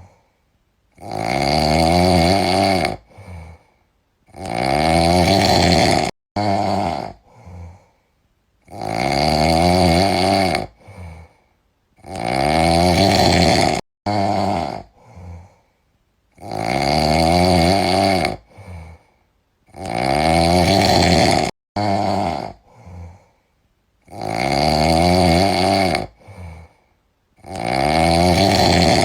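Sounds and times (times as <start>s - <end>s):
cat snoring: 1.0s - 3.7s, 4.3s - 7.9s, 8.6s - 11.4s, 12.0s - 15.6s, 16.4s - 19.1s, 19.7s - 23.3s, 24.0s - 26.8s, 27.4s - 29.0s.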